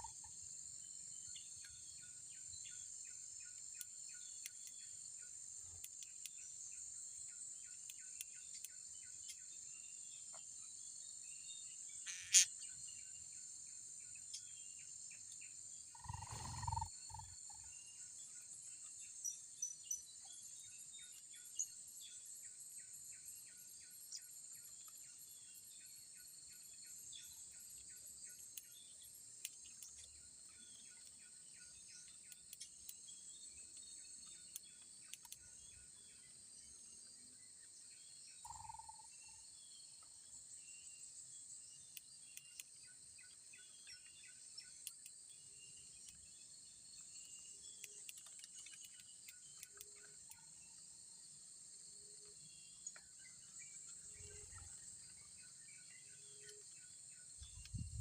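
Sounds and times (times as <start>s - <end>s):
bird chirps: 0.0s - 50.9s, 52.0s - 58.0s
insect drone: 0.0s - 58.0s.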